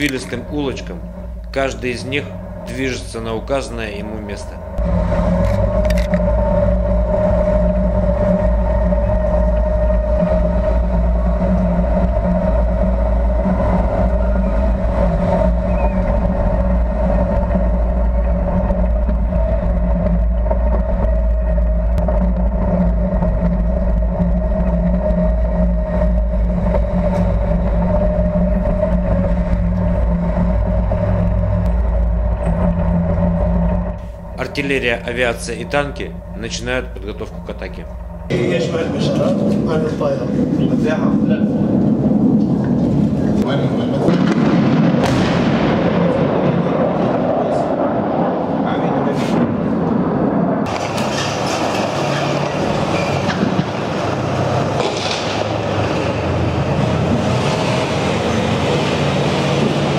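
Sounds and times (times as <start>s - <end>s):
tank engine droning: 0.0s - 59.9s.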